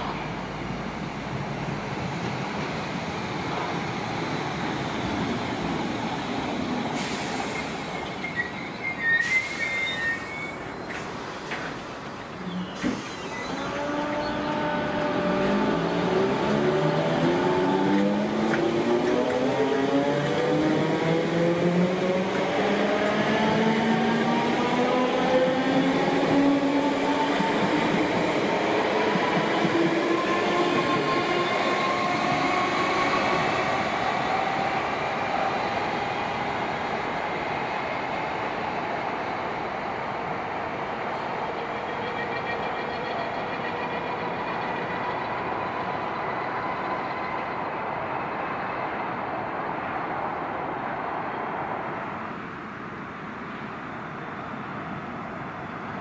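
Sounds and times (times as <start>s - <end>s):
wheel and rail noise: 0.0s - 56.0s.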